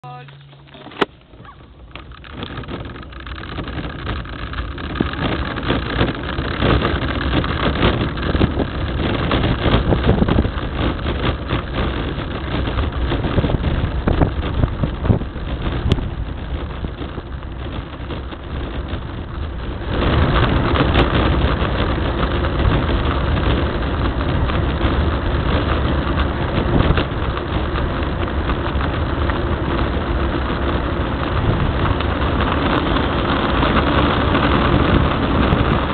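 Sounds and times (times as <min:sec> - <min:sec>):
wheels rumbling over asphalt: 0:00.0 - 0:35.9.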